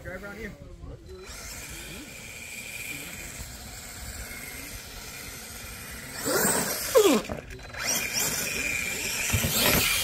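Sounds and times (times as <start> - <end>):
toy truck motor whine: 1.1 - 10.0.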